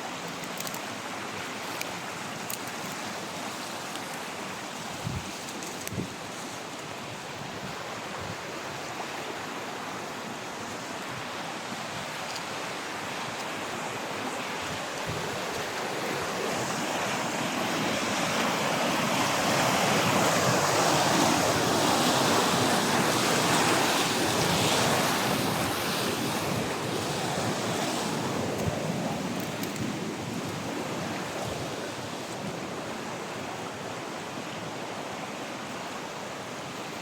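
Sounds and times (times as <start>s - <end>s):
rushing river water: 0.0s - 37.0s.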